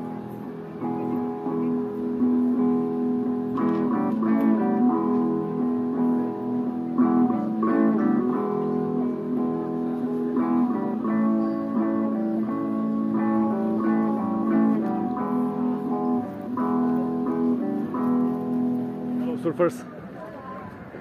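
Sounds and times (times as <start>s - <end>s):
acoustic guitar music: 0.0s - 19.9s.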